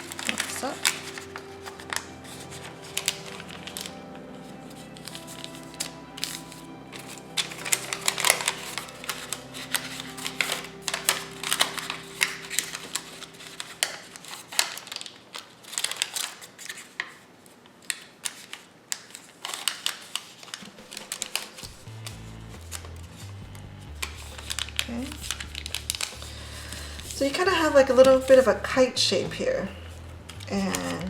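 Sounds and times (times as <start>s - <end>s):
soft background music: 0.0s - 16.3s, 20.7s - 31.0s
paper crinkling as folded: 0.0s - 28.8s, 29.8s - 31.0s.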